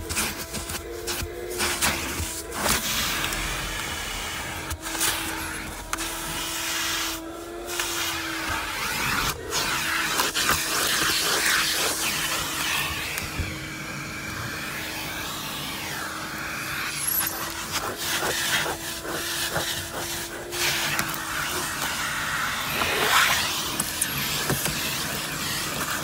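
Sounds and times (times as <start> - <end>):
vacuum cleaner humming: 0.0 - 26.0.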